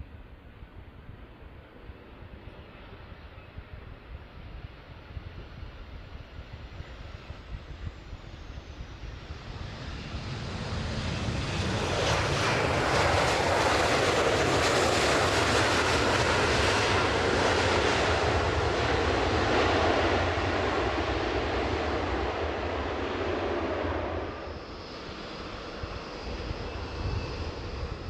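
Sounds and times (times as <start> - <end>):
jet engines of landing airliner: 0.0 - 28.0.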